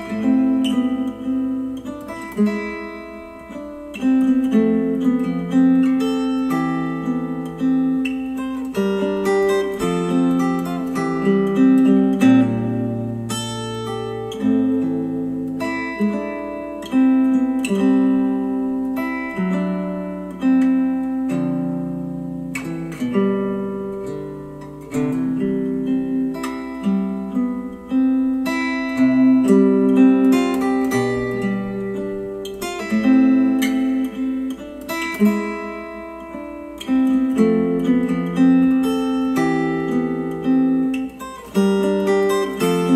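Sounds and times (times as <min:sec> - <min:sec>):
acoustic guitar music: 0:00.0 - 0:42.9.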